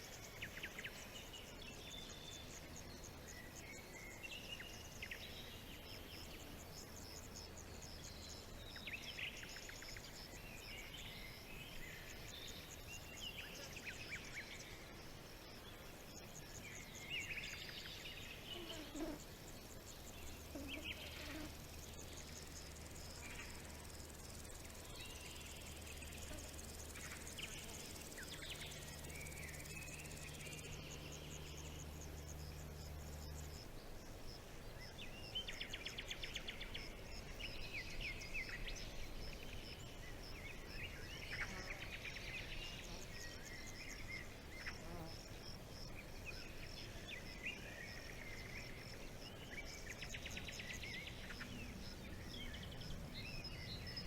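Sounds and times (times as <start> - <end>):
insects chirring: 5.9 - 54.0.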